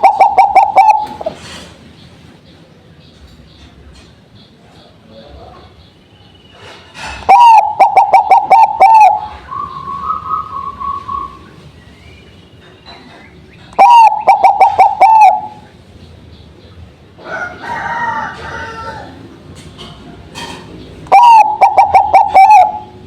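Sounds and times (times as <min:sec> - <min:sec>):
dove singing: 0:00.0 - 0:23.0.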